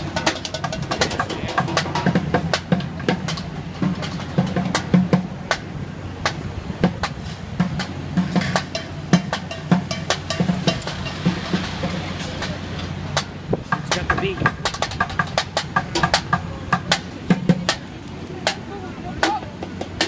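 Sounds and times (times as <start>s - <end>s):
drumming on plastic buckets: 0.0s - 20.0s
traffic rumble: 0.0s - 20.0s.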